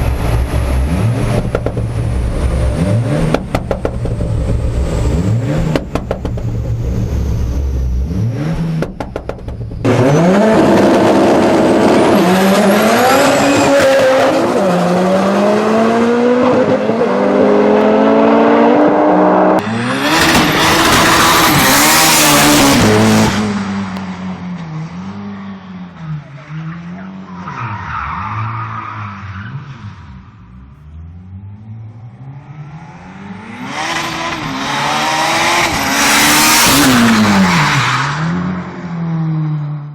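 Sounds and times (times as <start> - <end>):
racing engines revving: 0.0 - 39.8
cars passing by: 0.0 - 39.9.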